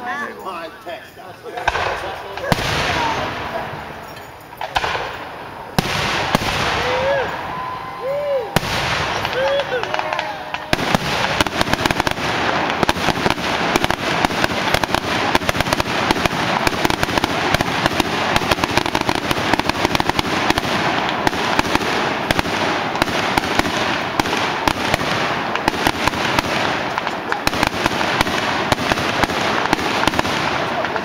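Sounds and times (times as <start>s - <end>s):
fireworks crackling: 0.0s - 31.0s
fireworks bangs: 1.4s - 31.0s.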